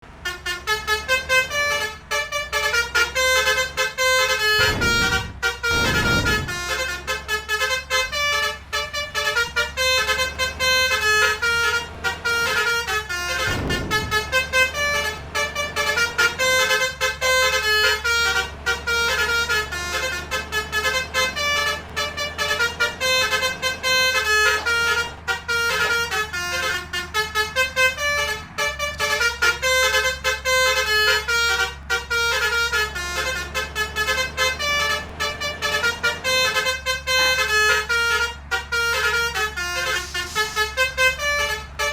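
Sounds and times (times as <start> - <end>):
low engine hum: 0.0 - 41.9
multi-tone trumpet horns: 0.2 - 41.9.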